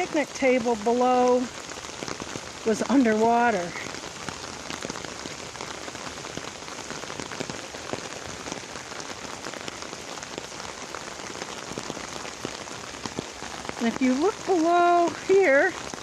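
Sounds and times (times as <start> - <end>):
heavy rain hissing: 0.0 - 16.0
raindrops ticking: 0.0 - 16.0.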